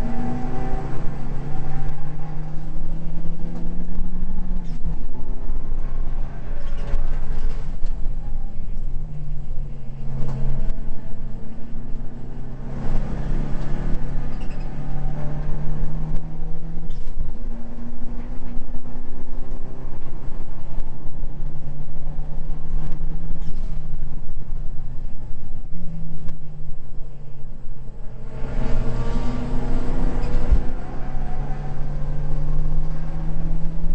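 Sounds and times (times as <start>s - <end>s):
race car engine from inside cabin: 0.0s - 33.9s.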